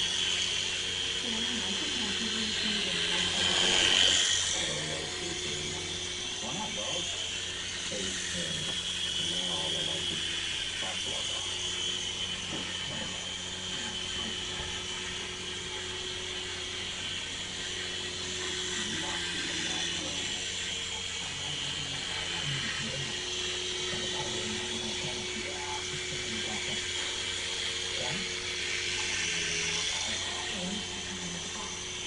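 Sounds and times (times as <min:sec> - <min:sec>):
toy helicopter motor whirring: 0:00.0 - 0:32.0.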